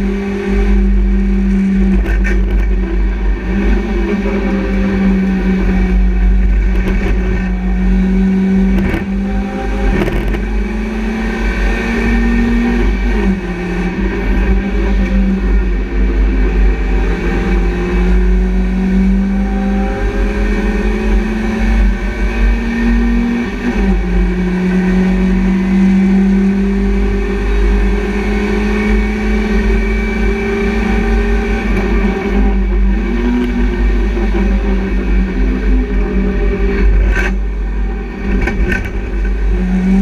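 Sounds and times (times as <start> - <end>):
race car engine accelerating: 0.0 - 40.0
road and wind noise: 0.0 - 40.0.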